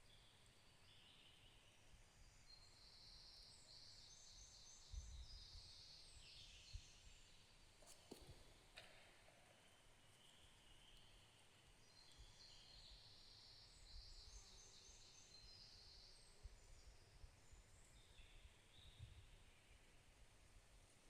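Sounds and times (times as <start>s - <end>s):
faint distant birdsong: 0.0s - 21.0s.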